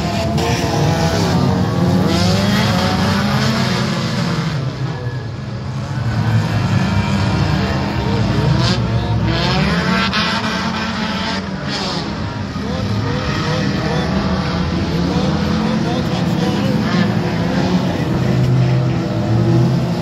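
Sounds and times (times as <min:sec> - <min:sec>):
racing car engines: 0:00.0 - 0:20.0.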